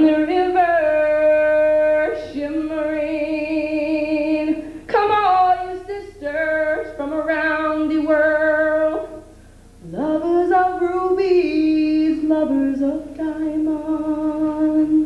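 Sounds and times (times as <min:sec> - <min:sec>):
woman singing wordless notes: 0:00.0 - 0:15.0.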